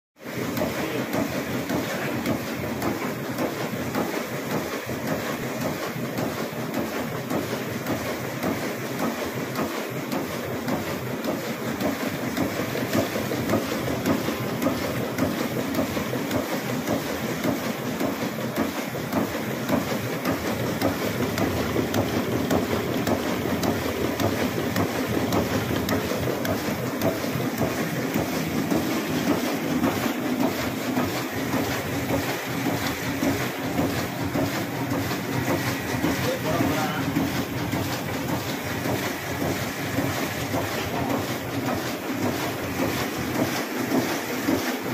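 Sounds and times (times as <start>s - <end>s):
printing press clattering: 0.2s - 44.9s.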